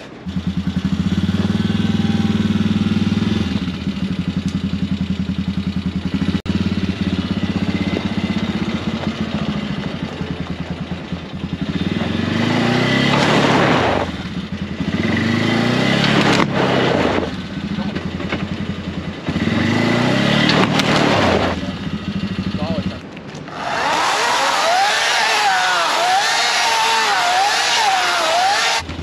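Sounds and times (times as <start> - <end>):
atv engine idling and revving: 0.0 - 26.5, 27.2 - 29.0.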